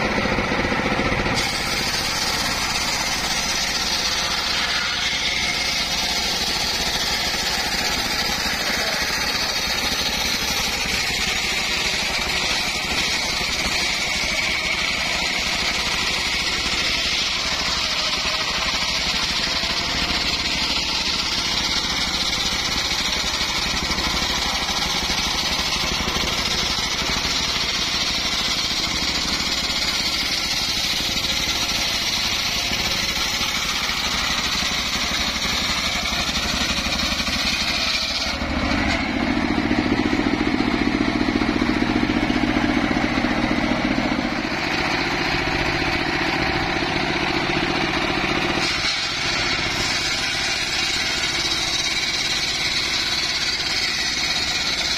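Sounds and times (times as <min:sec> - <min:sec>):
circular saw cutting log: 0:00.0 - 0:54.9
diesel engine running under load: 0:00.0 - 0:54.9.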